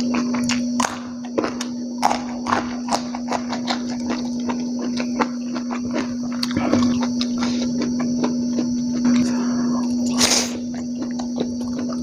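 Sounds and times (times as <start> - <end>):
open-mouthed chewing and lip-smacking: 0.0 - 12.0
steady hum: 0.0 - 12.0.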